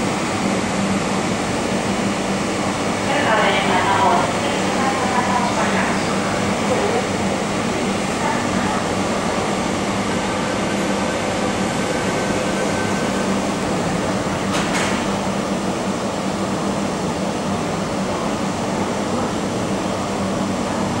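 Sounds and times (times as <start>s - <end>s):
station ventilation noise: 0.0s - 21.0s
train rumbling into tunnel: 0.0s - 21.0s.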